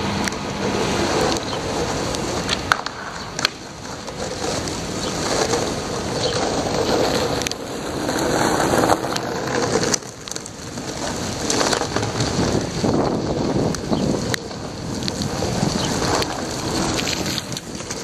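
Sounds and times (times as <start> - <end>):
wet street hiss and rumble: 0.0 - 18.0
wind buffeting microphone: 0.0 - 18.0.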